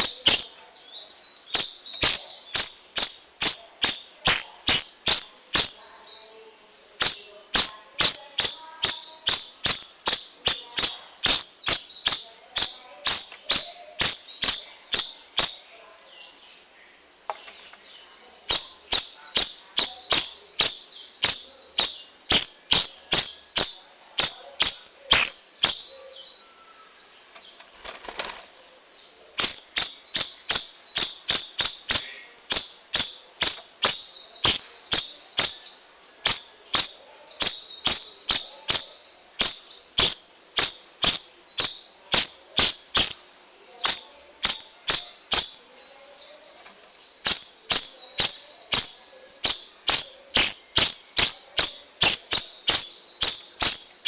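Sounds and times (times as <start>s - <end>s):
songbird singing high notes: 0.0s - 16.4s, 18.0s - 27.6s, 28.8s - 54.0s.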